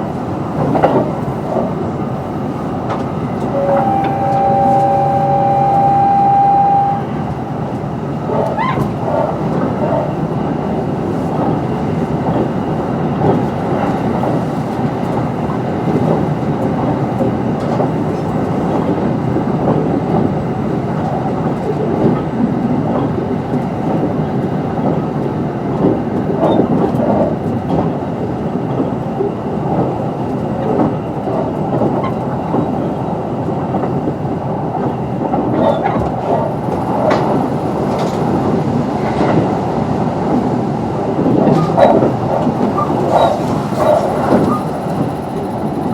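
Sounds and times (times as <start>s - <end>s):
rail clicks: 0.0s - 45.9s
wheels rumbling on rail: 0.0s - 45.9s.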